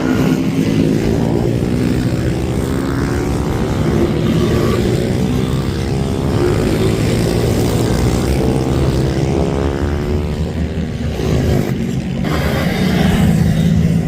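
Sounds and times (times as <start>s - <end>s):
minibike engines revving hard: 0.0s - 14.0s.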